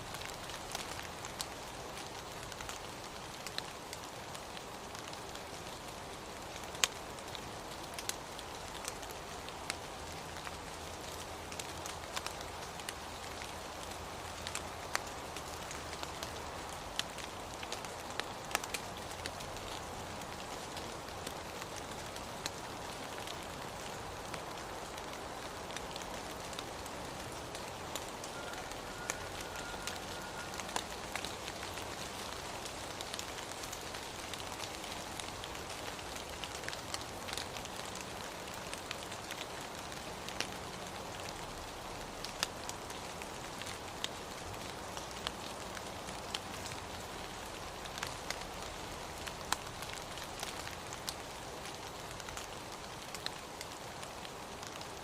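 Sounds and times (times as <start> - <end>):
raindrops ticking on a surface: 0.0 - 55.0
steady rain hiss: 0.0 - 55.0.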